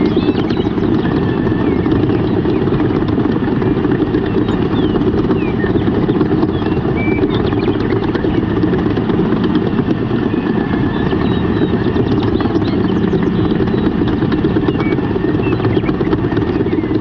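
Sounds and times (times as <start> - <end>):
small motor pulsing hum: 0.0 - 17.0.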